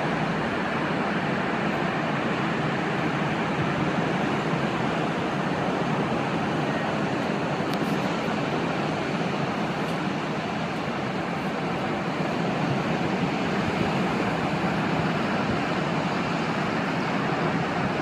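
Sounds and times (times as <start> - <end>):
sea surf on shore: 0.0 - 18.0.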